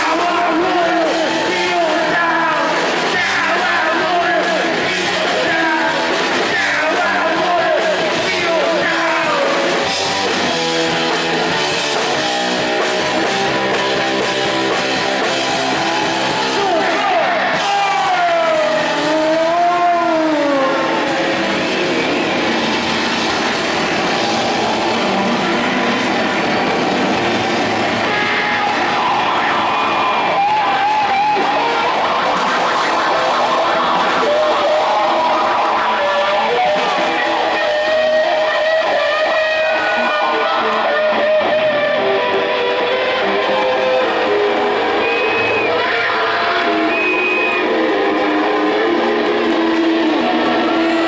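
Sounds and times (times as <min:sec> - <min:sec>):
electric guitar lead bending notes: 0:00.0 - 0:51.0
rock band playing: 0:00.0 - 0:51.0.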